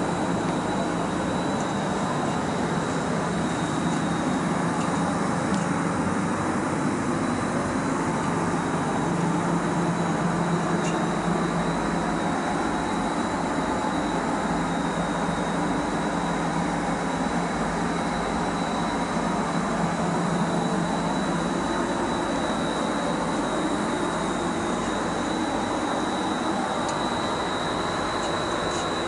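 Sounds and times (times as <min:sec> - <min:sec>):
thin high whine: 0:00.0 - 0:29.0
ventilation fans rushing air: 0:00.0 - 0:29.0.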